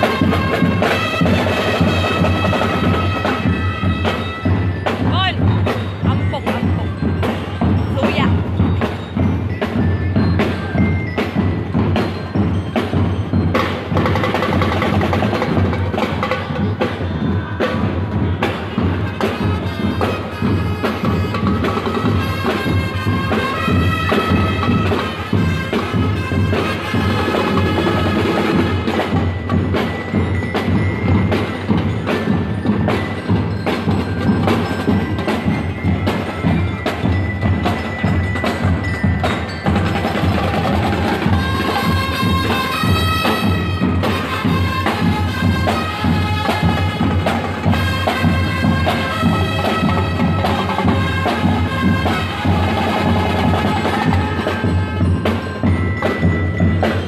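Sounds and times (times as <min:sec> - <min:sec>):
bell-lyres ringing melody: 0:00.0 - 0:57.0
snare and bass drums beating: 0:00.0 - 0:57.0.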